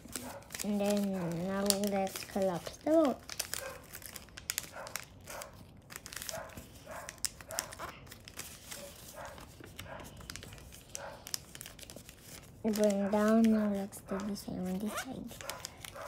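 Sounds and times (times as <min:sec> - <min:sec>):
paper crinkling and rustling: 0:00.0 - 0:16.0.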